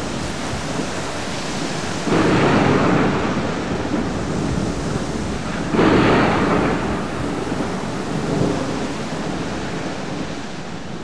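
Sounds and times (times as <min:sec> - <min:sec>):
thunder rolling: 0:00.0 - 0:10.5
heavy rain: 0:00.0 - 0:11.0
thunderclap: 0:00.0 - 0:11.0.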